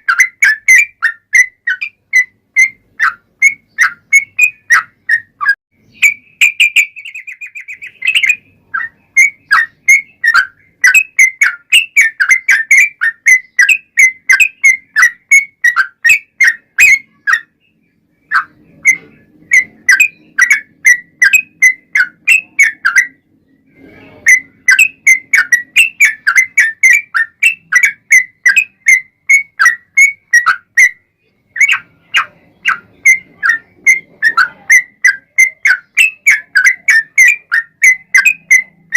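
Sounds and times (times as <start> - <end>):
bird whistled song: 0.0 - 38.9.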